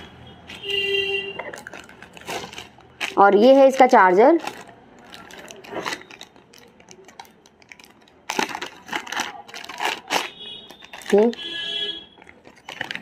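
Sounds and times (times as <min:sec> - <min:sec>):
plastic bag crinkling: 0:00.5 - 0:13.0.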